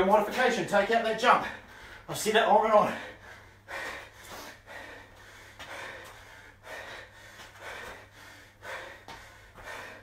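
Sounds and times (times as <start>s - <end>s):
man breathing hard: 1.2s - 10.0s.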